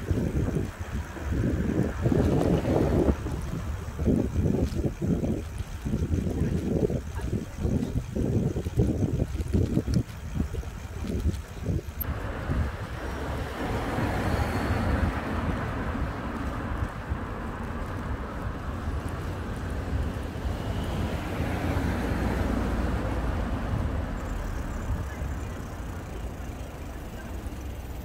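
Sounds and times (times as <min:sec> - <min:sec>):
wind rushing over microphone: 0:00.0 - 0:25.2
car traffic: 0:00.0 - 0:28.0.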